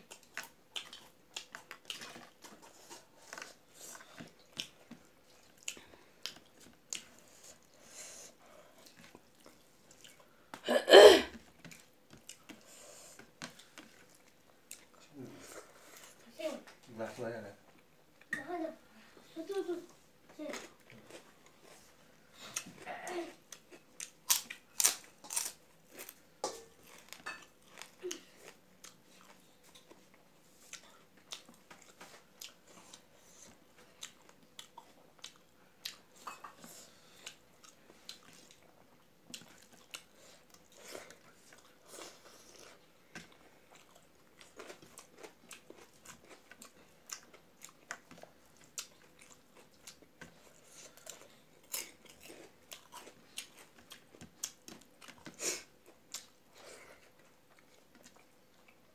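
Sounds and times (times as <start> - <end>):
chewing and crunching food: 0.0 - 10.6, 11.3 - 18.3, 19.0 - 58.9.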